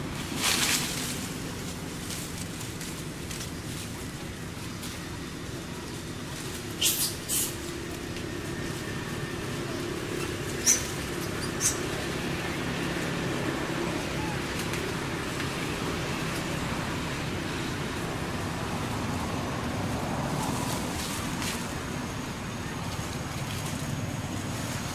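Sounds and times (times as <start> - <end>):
dry leaves crackling: 0.0 - 24.9
low background rumble: 0.0 - 24.9.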